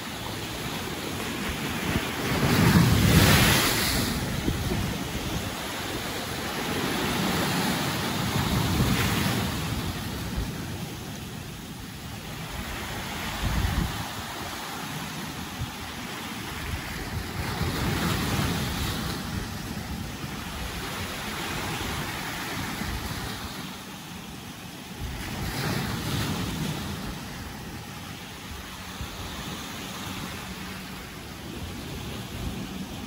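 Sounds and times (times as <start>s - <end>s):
sea waves breaking on rocky shore: 0.0s - 33.0s.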